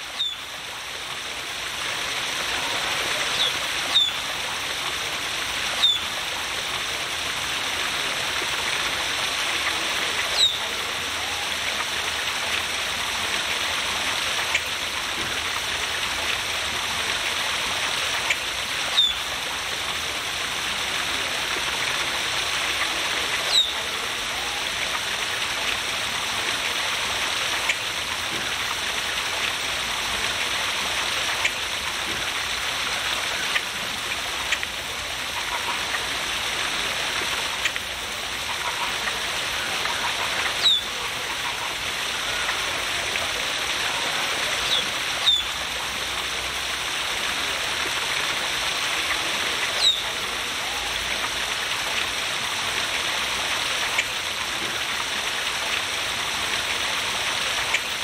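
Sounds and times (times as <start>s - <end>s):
waterfall splashing over rocks: 0.0s - 58.0s.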